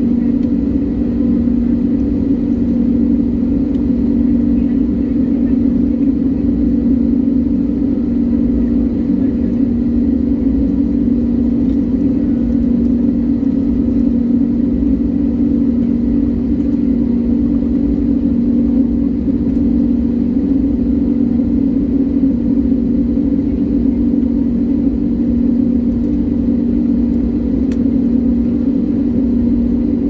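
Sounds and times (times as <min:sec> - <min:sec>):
airliner engines droning: 0:00.0 - 0:30.0.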